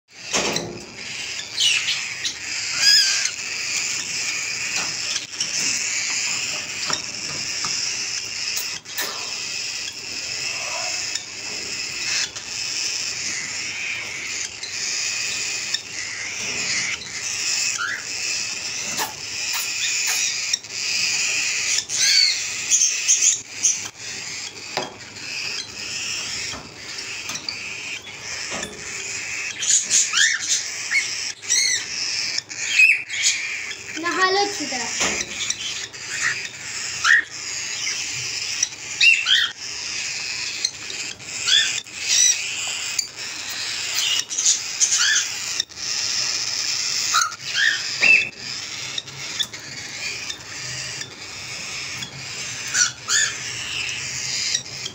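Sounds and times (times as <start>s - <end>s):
cockatiels chirping: 0.1s - 54.9s.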